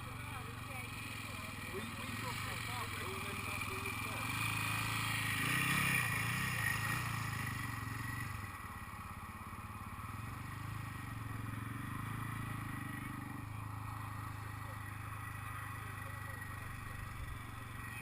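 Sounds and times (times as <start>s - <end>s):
motorcycle engines running: 0.0s - 18.0s.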